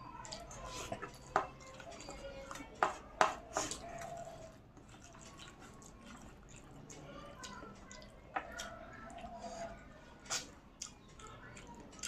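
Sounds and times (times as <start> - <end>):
faint music: 0.0 - 12.0
eating clicks and smacks: 0.2 - 9.4, 10.2 - 12.0.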